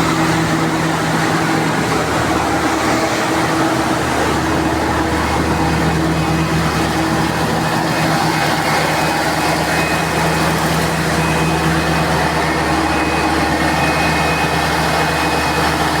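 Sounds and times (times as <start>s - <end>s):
diesel generator droning: 0.0s - 16.0s.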